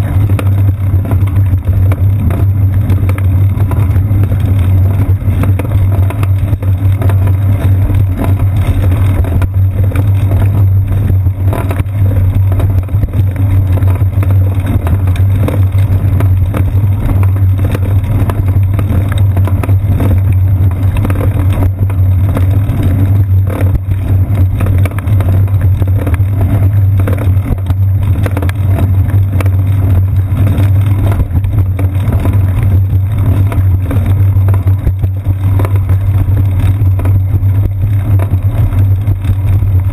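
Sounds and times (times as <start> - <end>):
bicycle rolling over pavement: 0.0 - 39.9.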